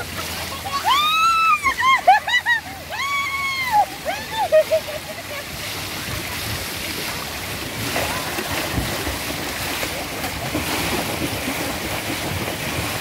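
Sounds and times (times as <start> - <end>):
pool water splashing: 0.0 - 13.0.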